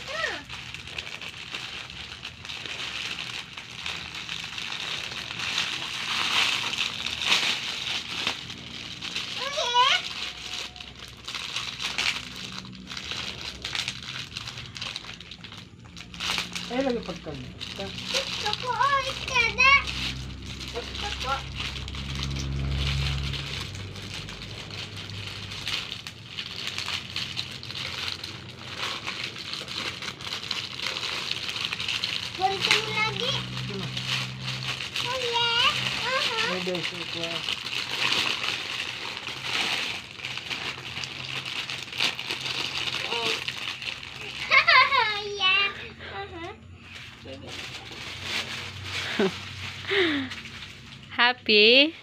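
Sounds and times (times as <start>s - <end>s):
sharp plastic crackle: 0.0s - 45.8s, 46.4s - 51.4s
plastic packaging crinkling: 0.0s - 51.6s.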